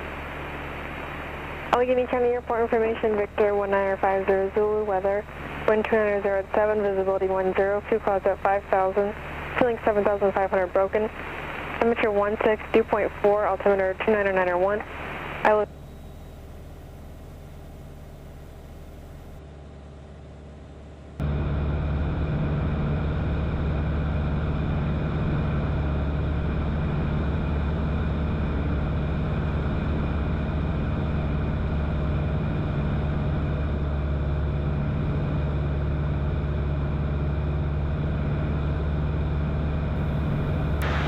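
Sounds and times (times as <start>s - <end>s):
small plane engine drone in cabin: 0.0s - 41.0s.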